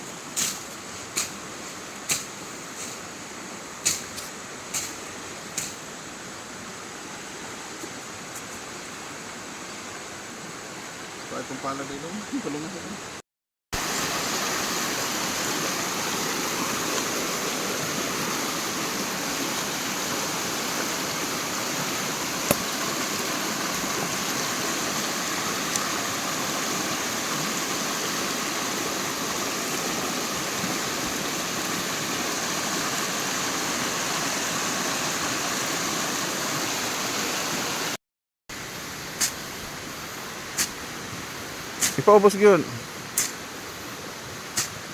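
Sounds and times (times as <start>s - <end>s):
rushing water: 0.0s - 13.2s, 13.8s - 44.9s.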